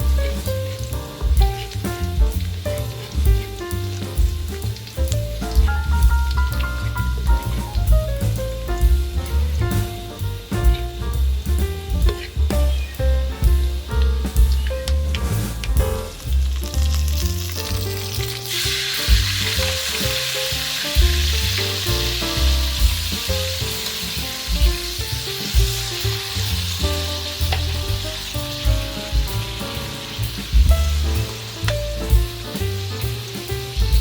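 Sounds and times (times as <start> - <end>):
background music with bass: 0.0 - 34.0
food sizzling in hot oil: 0.0 - 34.0.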